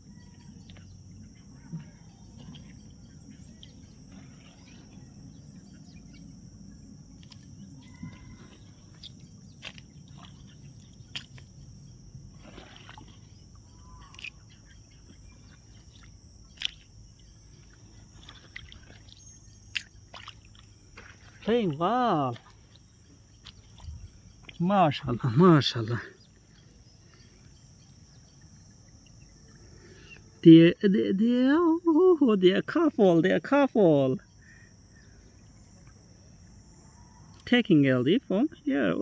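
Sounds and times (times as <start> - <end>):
high-pitched insect drone: 0.0 - 39.0.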